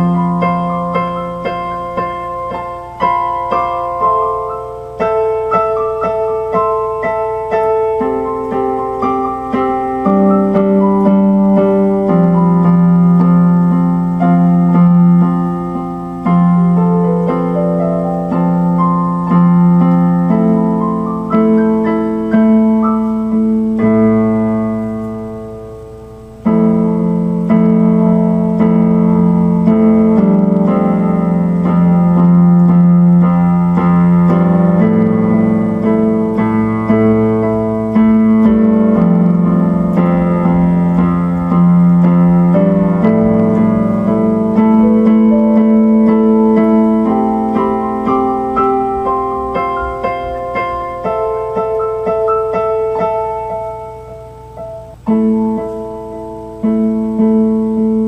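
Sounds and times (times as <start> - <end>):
electronic keyboard piano chords: 0.0 - 58.0.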